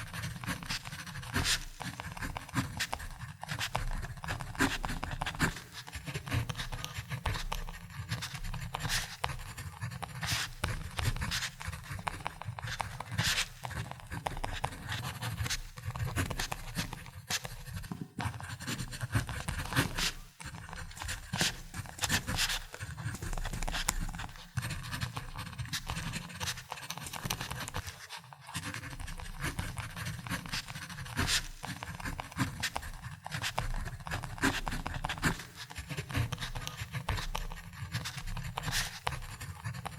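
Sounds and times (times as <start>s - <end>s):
pen scratching on paper: 0.0s - 39.9s.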